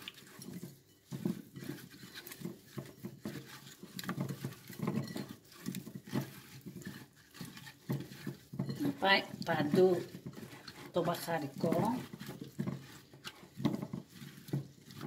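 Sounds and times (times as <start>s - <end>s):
wet squishing and rustling: 0.0s - 15.0s.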